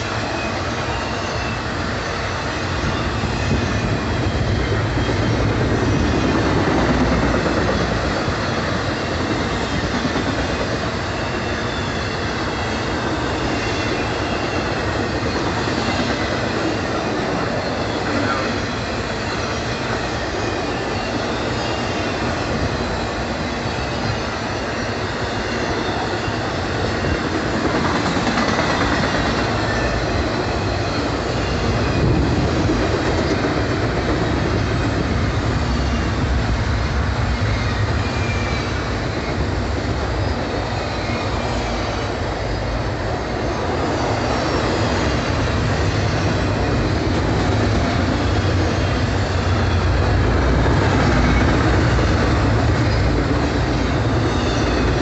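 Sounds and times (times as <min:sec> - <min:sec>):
freight train wheels rumbling: 0:00.0 - 0:55.0
high wheel squeal: 0:00.0 - 0:55.0.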